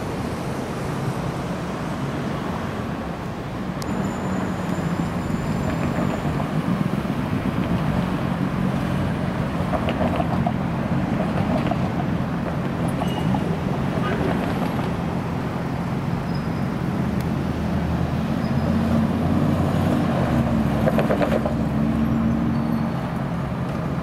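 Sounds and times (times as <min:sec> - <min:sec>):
cars and trams passing: 0:00.0 - 0:24.0.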